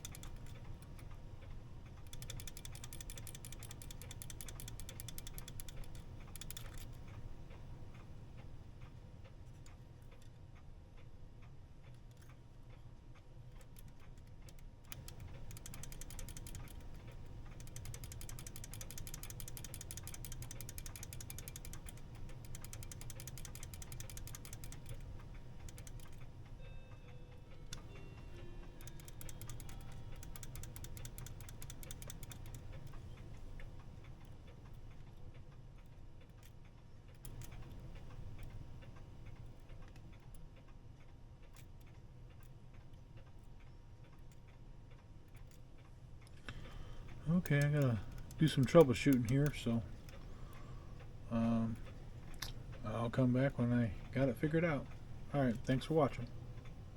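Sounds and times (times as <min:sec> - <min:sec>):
clock movement rapid clicking: 0:00.0 - 0:10.4, 0:13.5 - 0:45.9, 0:46.5 - 0:56.9.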